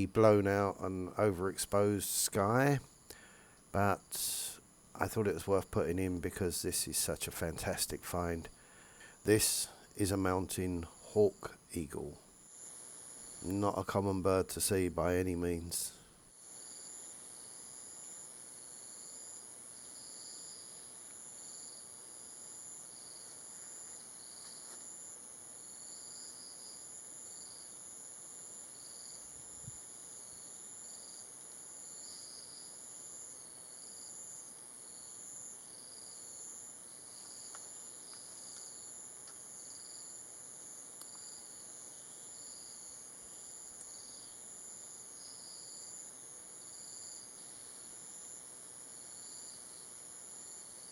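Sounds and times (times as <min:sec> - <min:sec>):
insect chirps: 0:00.0 - 0:50.9.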